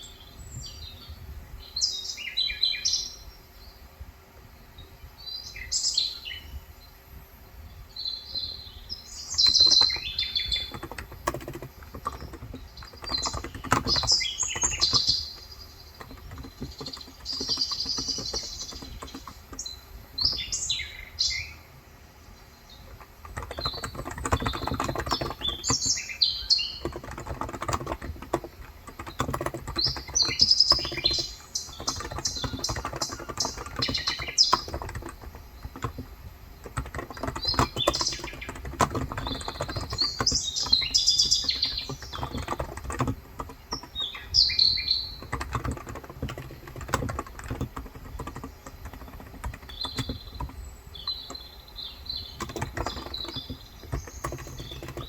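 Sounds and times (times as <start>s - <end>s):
birds chirping: 0.0s - 55.0s
keyboard keys clacking: 9.2s - 21.4s, 22.7s - 55.0s.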